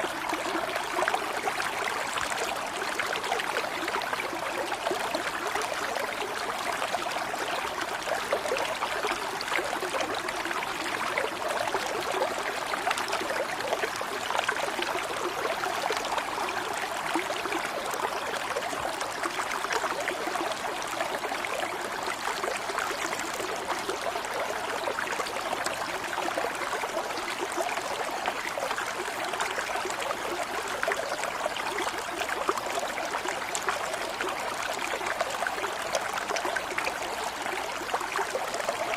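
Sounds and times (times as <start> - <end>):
stream of running water babbling: 0.0 - 38.9.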